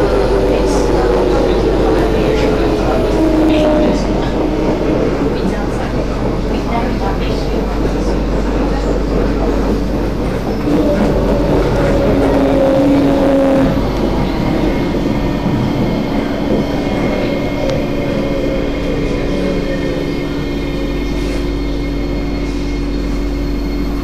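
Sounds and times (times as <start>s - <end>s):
electric train running: 0.0s - 24.0s.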